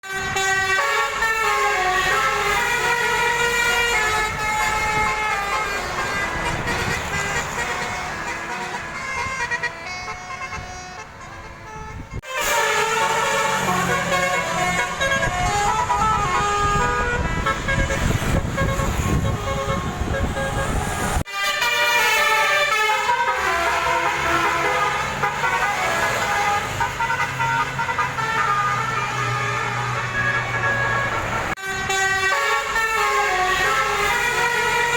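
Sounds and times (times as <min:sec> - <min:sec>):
multi-trumpet air horn tune: 0:00.0 - 0:34.9.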